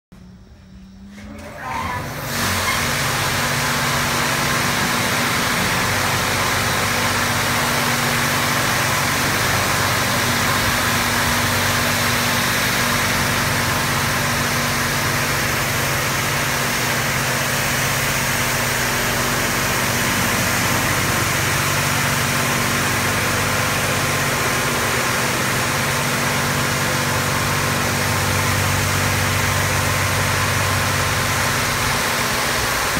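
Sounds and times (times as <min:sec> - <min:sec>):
low machine hum: 0:00.2 - 0:32.9
high-pressure water spray hissing: 0:01.7 - 0:32.9.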